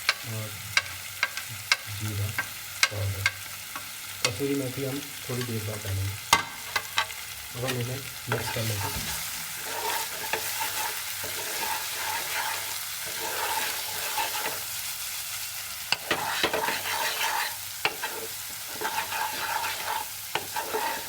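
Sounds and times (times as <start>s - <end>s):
utensil clacking against pan: 0.0s - 4.4s, 5.4s - 14.6s, 15.9s - 21.0s
spices sizzling in a pan: 0.0s - 21.0s.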